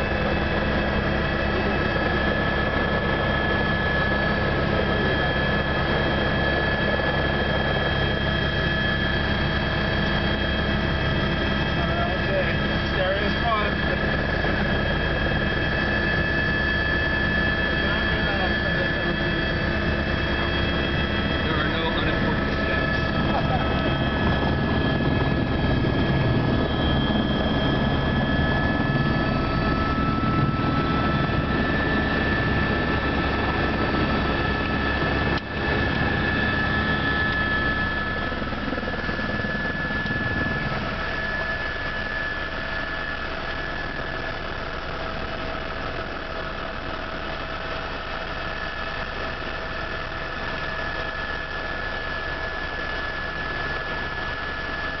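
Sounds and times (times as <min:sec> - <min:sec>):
helicopter engine and rotor drone: 0:00.0 - 0:55.0
high turbine whine: 0:00.0 - 0:55.0.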